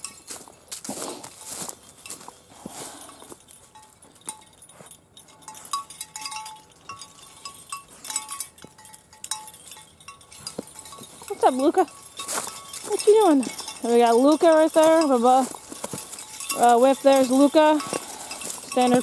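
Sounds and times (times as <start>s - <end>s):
dog collar tags jingling: 0.0s - 19.0s.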